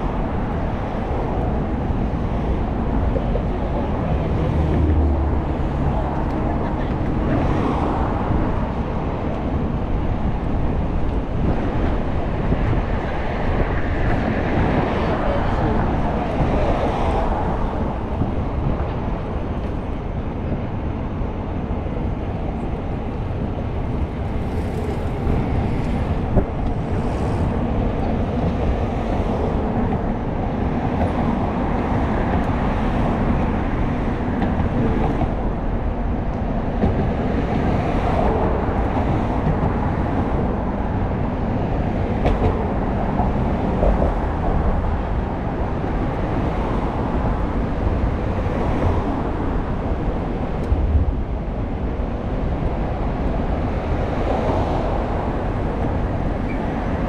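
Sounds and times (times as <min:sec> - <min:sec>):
city traffic noise: 0:00.0 - 0:57.0
wind on microphone: 0:00.0 - 0:57.0.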